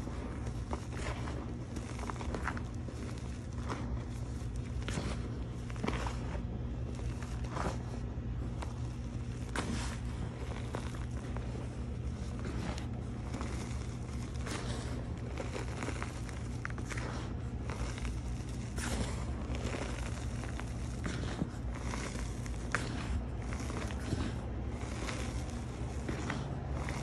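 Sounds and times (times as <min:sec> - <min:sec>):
chalk crumbling and rustling: 0:00.0 - 0:27.0
steady low hum: 0:00.0 - 0:27.0.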